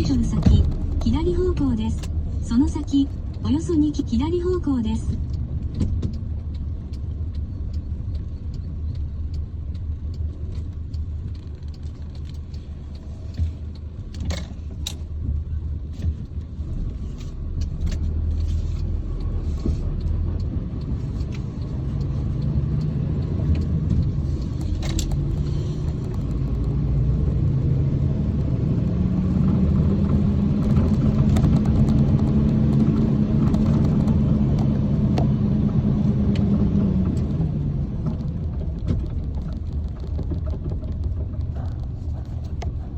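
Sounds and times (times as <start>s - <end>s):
sharp clicks: 0.0s - 27.5s, 30.0s - 37.4s
truck engine and road rumble: 0.0s - 42.9s.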